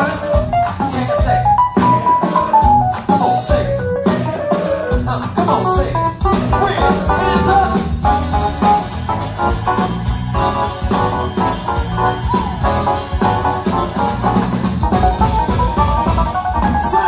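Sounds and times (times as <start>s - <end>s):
live band music with keyboard: 0.0s - 17.0s.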